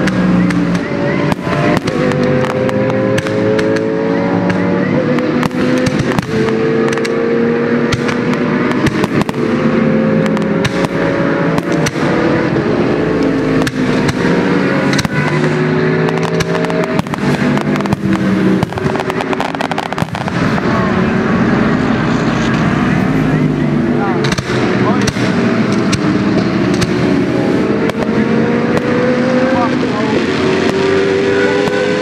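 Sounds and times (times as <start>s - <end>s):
fireworks bangs and crackles: 0.0s - 7.2s, 7.8s - 12.5s, 13.4s - 30.9s, 31.5s - 32.0s
race car engines revving: 0.0s - 32.0s.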